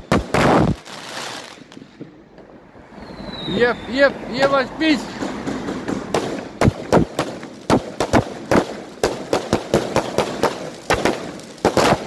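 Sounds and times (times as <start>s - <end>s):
fireworks bangs and cracks: 0.0s - 2.5s, 4.4s - 12.0s.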